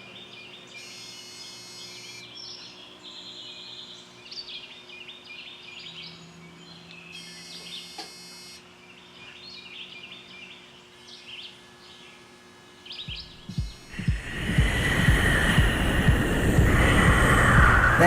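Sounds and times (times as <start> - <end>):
bird chirping: 0.0 - 8.0, 8.8 - 18.0
steady background hiss: 0.0 - 18.0.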